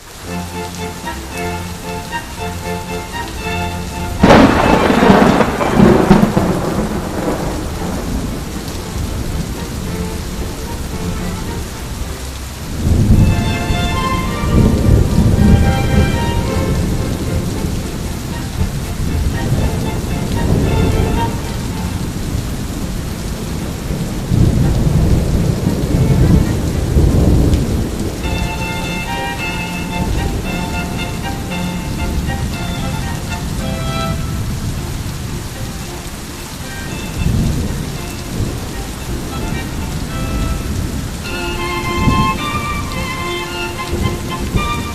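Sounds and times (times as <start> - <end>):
steady rain: 0.0 - 44.9
thunderclap rumbling: 2.7 - 36.0, 36.7 - 44.9.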